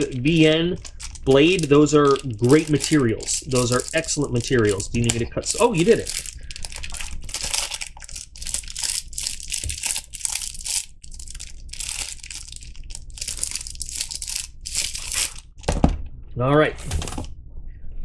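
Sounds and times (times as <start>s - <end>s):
plastic wrap crinkling: 0.0s - 15.7s.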